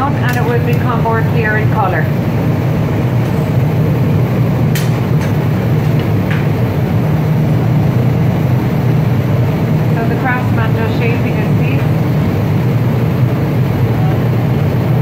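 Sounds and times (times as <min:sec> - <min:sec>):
low rumble of machinery and ventilation: 0:00.0 - 0:15.0.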